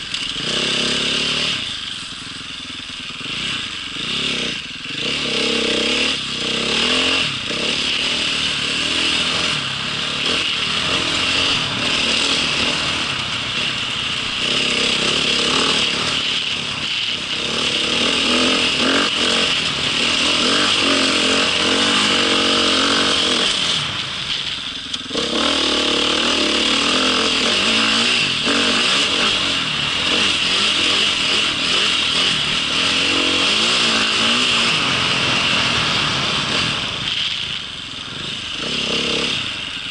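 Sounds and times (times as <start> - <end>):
small vehicle engine running: 0.0 - 39.9.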